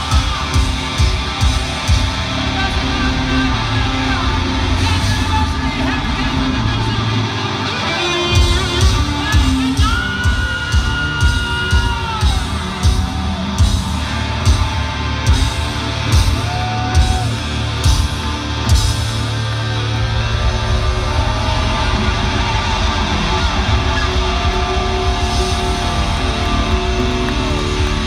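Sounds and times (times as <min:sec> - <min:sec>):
live hard rock band: 0:00.0 - 0:28.0.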